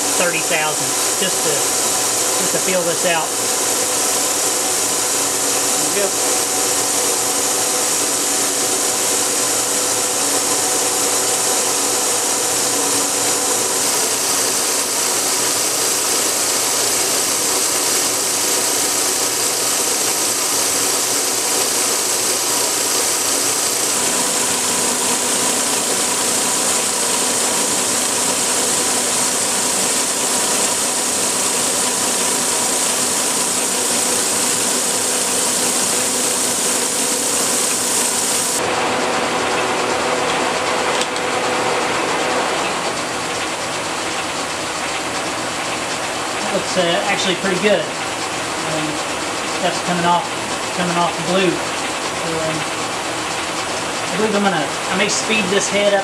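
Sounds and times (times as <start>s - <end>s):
machine gear whine: 0.0s - 56.0s
milling machine cutting steel: 0.0s - 56.0s.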